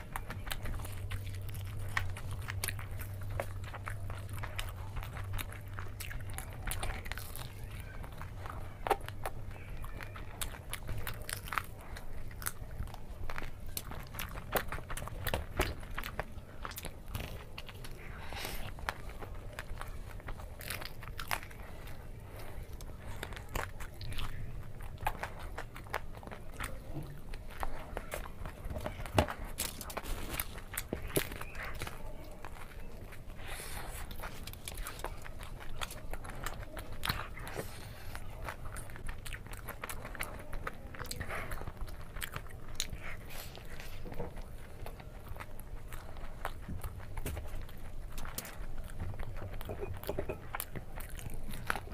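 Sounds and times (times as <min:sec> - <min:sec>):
crunchy biting and chewing: 0:00.0 - 0:51.9.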